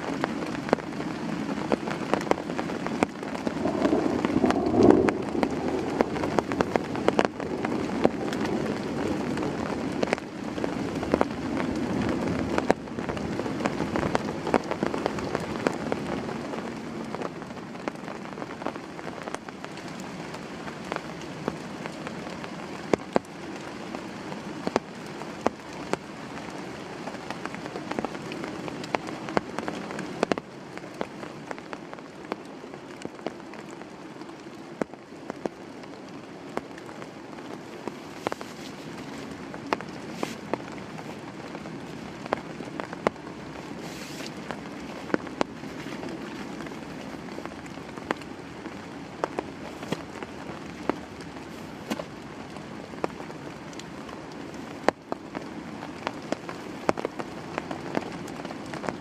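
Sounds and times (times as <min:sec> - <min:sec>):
heavy rain: 0:00.0 - 0:59.0
raindrops tapping on surface: 0:00.0 - 0:59.0.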